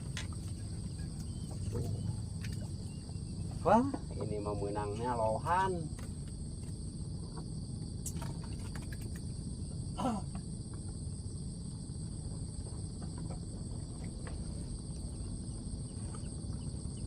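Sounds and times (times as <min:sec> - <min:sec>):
insects droning: 0:00.0 - 0:17.0
low outdoor rumble: 0:00.0 - 0:17.0.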